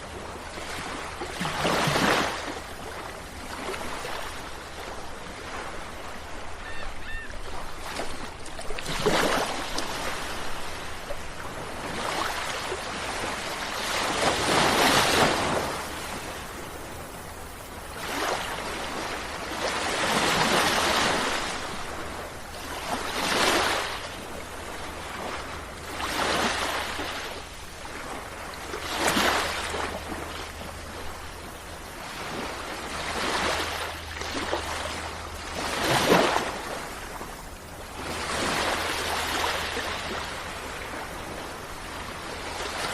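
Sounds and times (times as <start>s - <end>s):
sea waves breaking: 0.0s - 42.9s.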